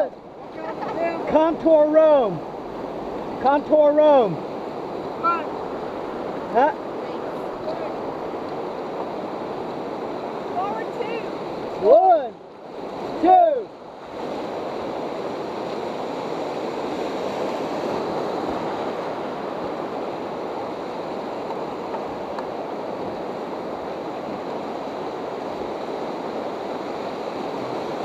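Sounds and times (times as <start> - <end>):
whitewater rapids roaring: 0.0 - 28.0.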